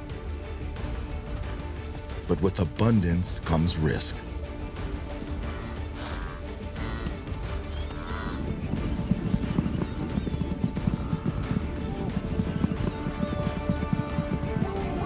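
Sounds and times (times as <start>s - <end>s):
documentary music score: 0.0s - 15.0s
hooves drumming: 0.0s - 15.0s.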